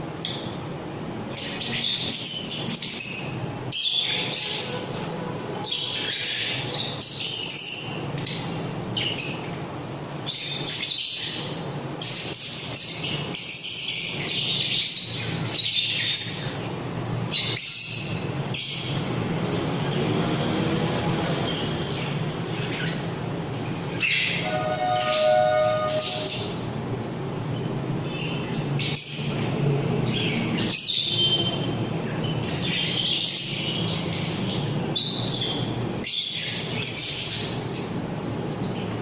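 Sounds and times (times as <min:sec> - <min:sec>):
parrots chirping and chattering: 0:00.0 - 0:39.0.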